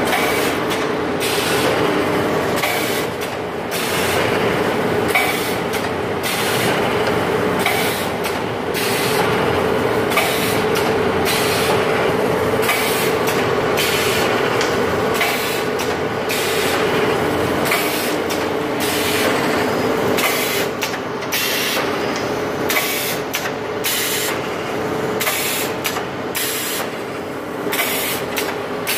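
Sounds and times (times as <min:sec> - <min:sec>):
packing machine humming: 0:00.0 - 0:28.9.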